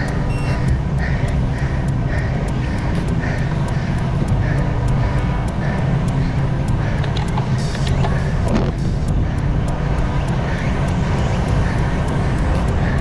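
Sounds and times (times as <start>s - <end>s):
faint regular pulse: 0.0s - 13.0s
wind rumbling on microphone: 0.0s - 13.0s.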